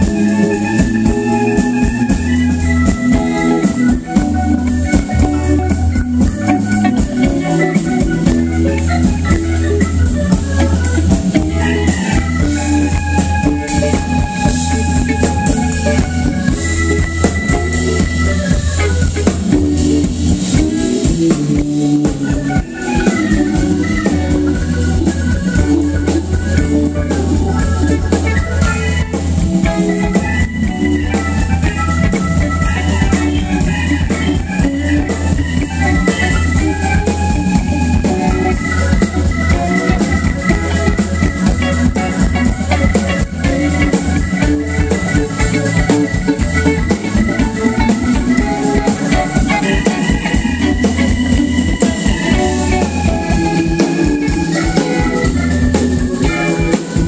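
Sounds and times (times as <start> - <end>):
bass line: 0.0 - 57.0
drum kit: 0.0 - 57.0
electric guitar: 0.0 - 57.0
organ chords: 0.0 - 57.0.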